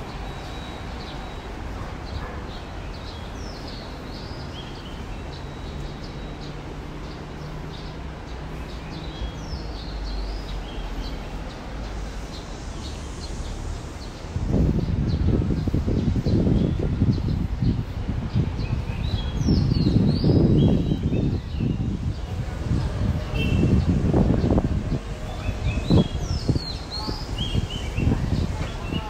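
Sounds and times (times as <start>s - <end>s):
songbirds chirping and whistling: 0.0s - 29.0s.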